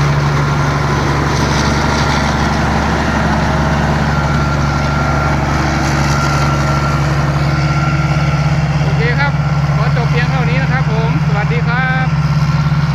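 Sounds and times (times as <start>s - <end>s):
diesel engine droning: 0.0s - 12.9s.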